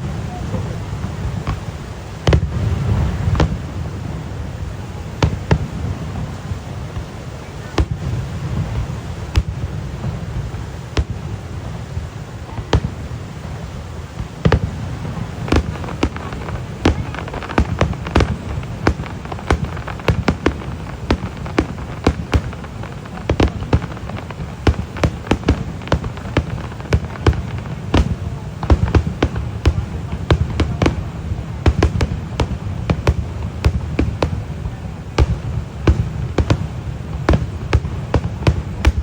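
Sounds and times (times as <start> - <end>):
fireworks bangs and pops: 0.0 - 39.0.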